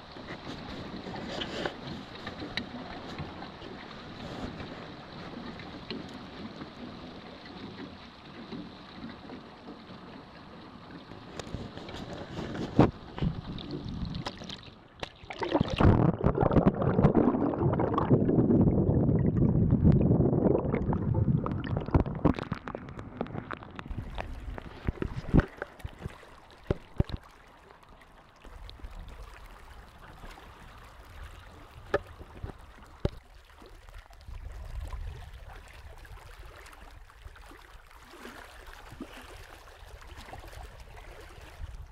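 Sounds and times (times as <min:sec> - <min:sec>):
low rumble of wind: 0:00.0 - 0:41.9
water splashing against boat hull: 0:00.0 - 0:41.9.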